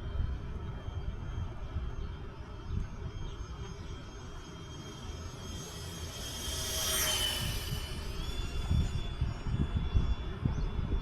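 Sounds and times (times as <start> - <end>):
high whine of electric fan: 0.0 - 11.0
wind buffeting microphone: 0.0 - 11.0.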